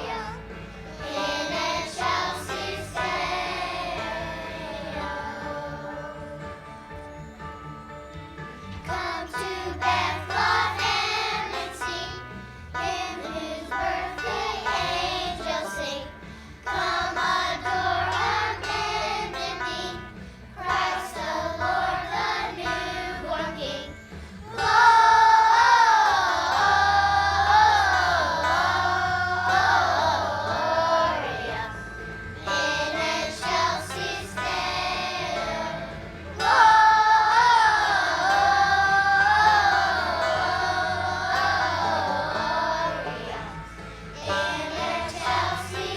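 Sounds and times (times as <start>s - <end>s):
children singing: 0.0s - 7.3s, 8.8s - 45.9s
musical accompaniment: 0.0s - 45.9s.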